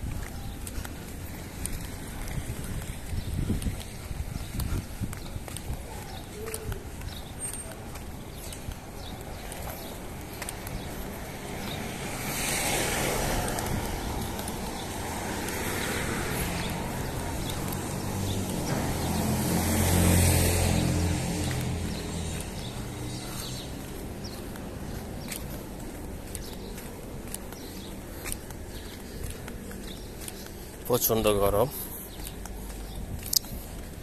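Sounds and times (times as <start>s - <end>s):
cars passing on street: 0.0s - 34.0s.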